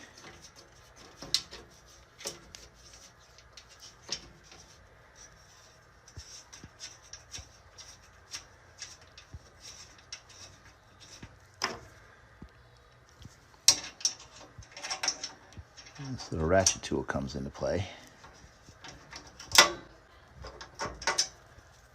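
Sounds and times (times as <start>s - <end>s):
metal screws and parts clicking: 0.0s - 11.9s, 13.6s - 17.0s, 18.2s - 21.5s.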